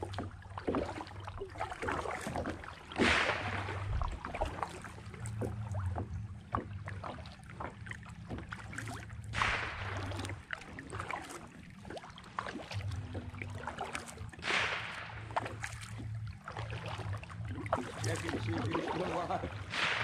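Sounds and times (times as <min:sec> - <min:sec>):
paddle splashing in water: 0:00.0 - 0:20.0.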